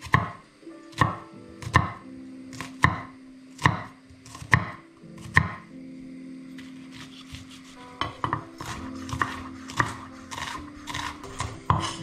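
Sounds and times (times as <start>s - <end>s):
knife chopping onion on board: 0.0s - 5.6s, 6.6s - 12.0s.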